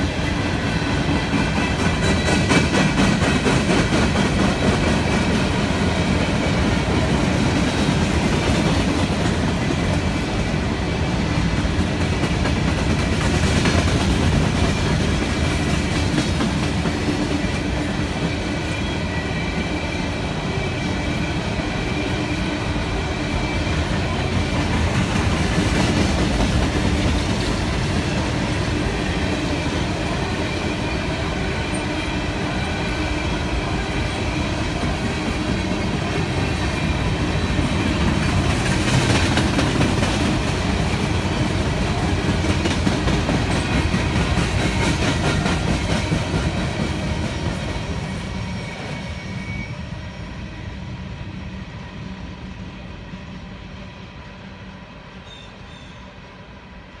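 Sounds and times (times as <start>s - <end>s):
train wheels clacking on rails: 0.0s - 49.8s
train rumble: 0.0s - 57.0s.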